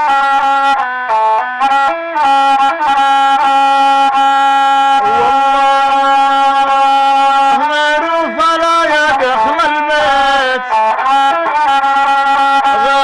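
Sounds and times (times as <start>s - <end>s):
bowed fiddle slow melody: 0.0s - 13.0s.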